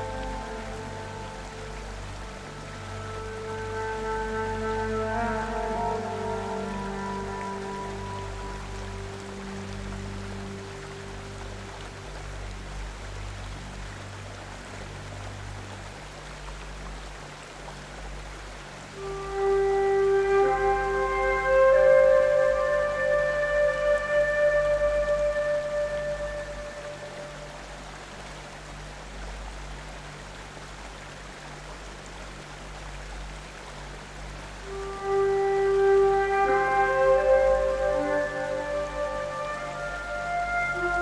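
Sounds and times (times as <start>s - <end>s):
flowing river water: 0.0s - 41.0s
low steady hum: 0.0s - 41.0s.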